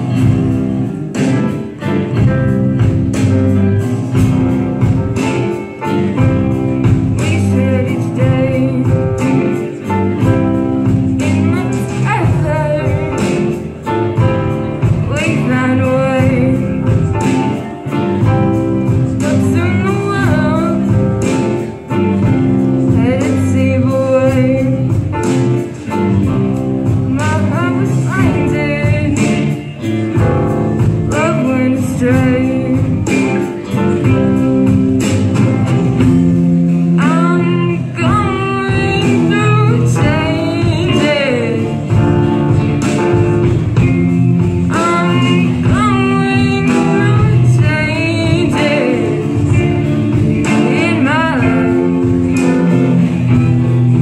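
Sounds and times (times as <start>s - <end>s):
live rock band playing: 0.0s - 54.0s
steady drumbeat: 0.0s - 54.0s
person singing: 4.8s - 53.8s.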